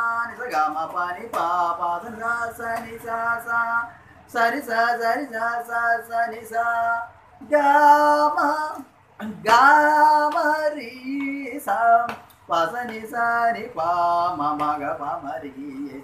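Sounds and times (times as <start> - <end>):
man singing unaccompanied: 0.0 - 16.0.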